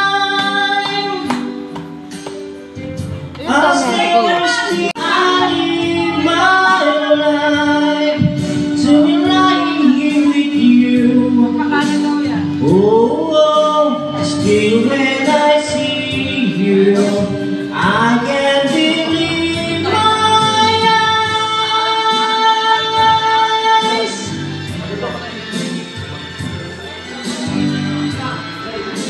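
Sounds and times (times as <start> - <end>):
man singing into microphone: 0.0 - 1.6, 3.4 - 25.8
music: 0.0 - 29.0.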